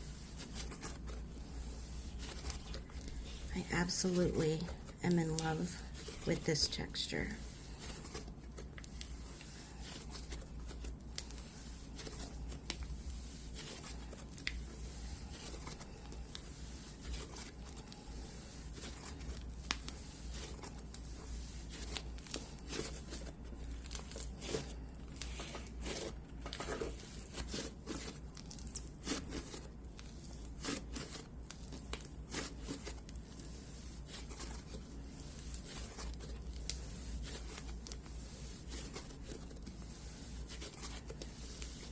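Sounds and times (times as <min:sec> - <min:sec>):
gritty slime crackling: 0:00.0 - 0:41.9.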